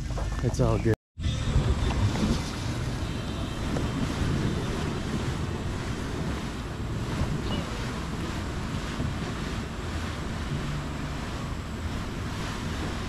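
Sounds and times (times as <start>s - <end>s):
kayak dragged over grass: 1.3s - 13.0s.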